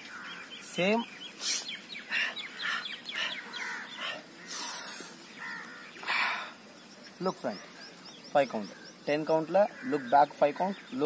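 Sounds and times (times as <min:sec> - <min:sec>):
harsh bird calls: 0:00.0 - 0:11.0.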